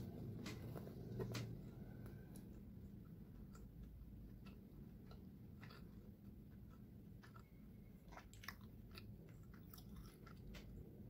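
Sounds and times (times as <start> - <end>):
faint chewing: 0.0 - 11.0
low background hum: 0.0 - 11.0.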